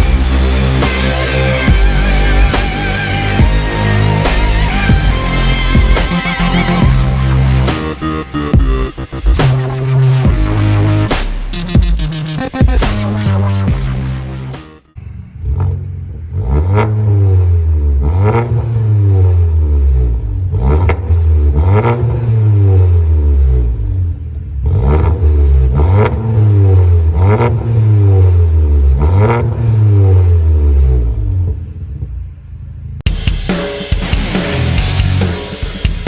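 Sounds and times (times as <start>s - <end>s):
car engine idling: 0.0s - 33.1s
car engine revving: 0.0s - 33.1s.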